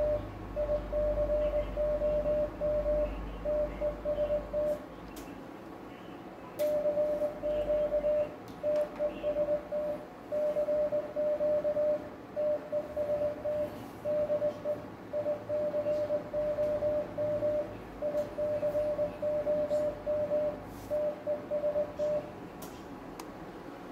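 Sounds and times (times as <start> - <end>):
morse code beeps: 0.0 - 4.8, 6.6 - 22.3.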